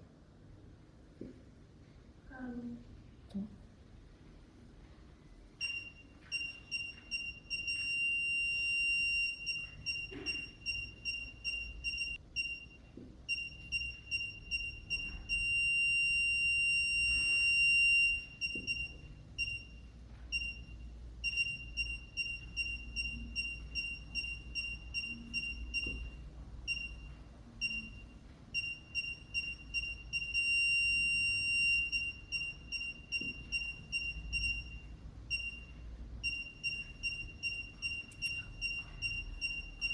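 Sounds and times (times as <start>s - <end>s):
parking sensor beeping: 5.6s - 39.9s.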